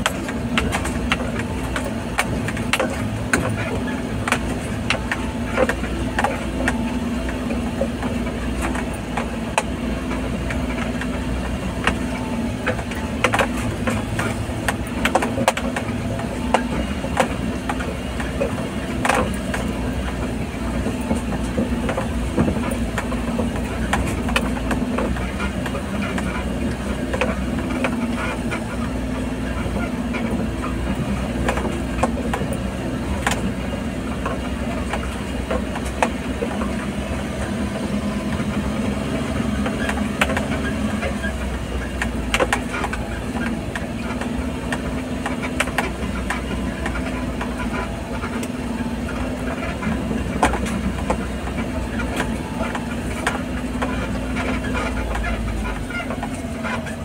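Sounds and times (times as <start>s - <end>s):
knocks and rattles: 0.0s - 57.0s
vehicle engine running: 0.0s - 57.0s.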